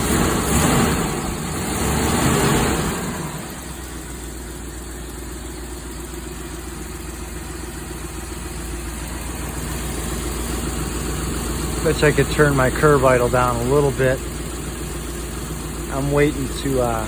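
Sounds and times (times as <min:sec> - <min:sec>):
engine idling: 0:00.0 - 0:17.0
engine throttle blips: 0:00.0 - 0:17.0.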